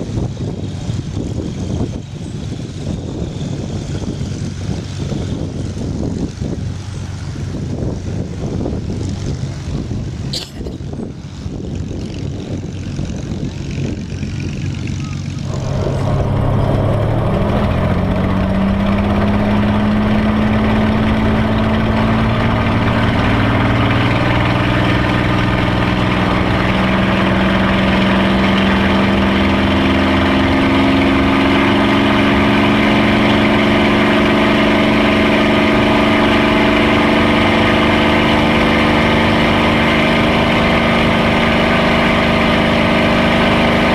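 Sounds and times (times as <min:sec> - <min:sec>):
propeller aircraft engine rumble: 0:00.0 - 0:43.9.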